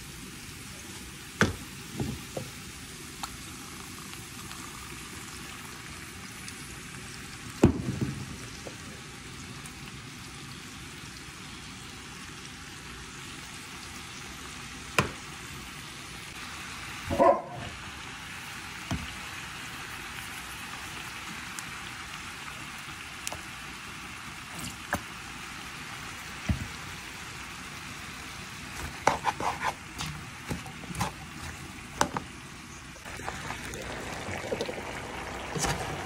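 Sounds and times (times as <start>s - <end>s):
vegetables sizzling in a pan: 0.0s - 36.0s.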